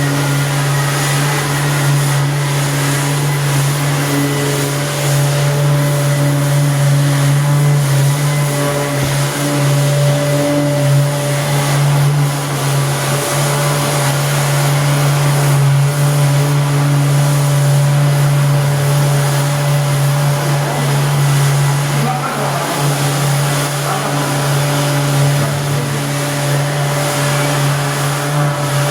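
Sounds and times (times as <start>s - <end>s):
motor humming: 0.0s - 28.9s.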